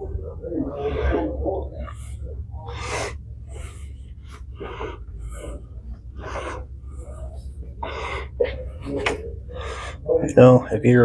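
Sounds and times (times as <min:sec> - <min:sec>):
steady low hum: 0:00.0 - 0:11.0
person breathing close: 0:00.7 - 0:10.2.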